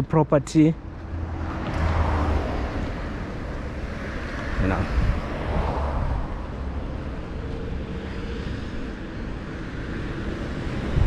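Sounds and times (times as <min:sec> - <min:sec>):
car traffic rumbling: 0:00.0 - 0:11.0.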